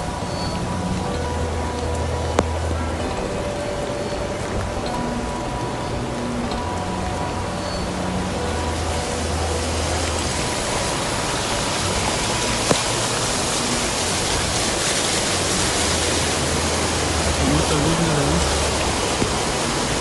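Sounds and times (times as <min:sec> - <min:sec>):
car engine and road rumble: 0:00.0 - 0:20.0
heavy rain: 0:00.0 - 0:20.0
wind: 0:00.0 - 0:20.0.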